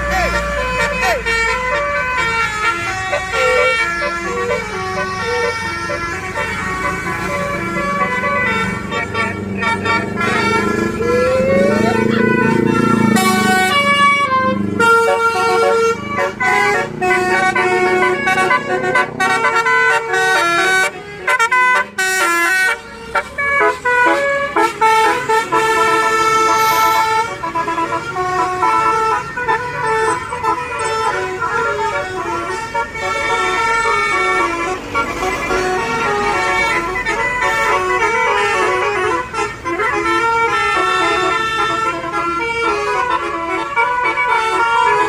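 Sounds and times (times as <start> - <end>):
musical air horn playing a tune: 0.0 - 45.0.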